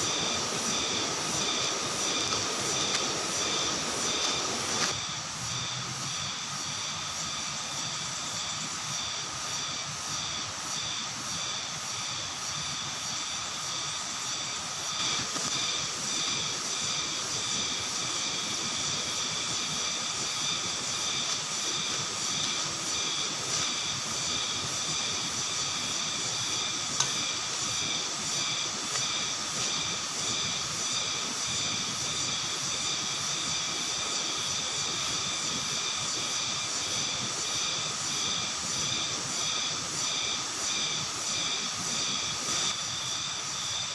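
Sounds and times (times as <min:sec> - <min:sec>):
insect chorus trilling: 0:00.0 - 0:43.9.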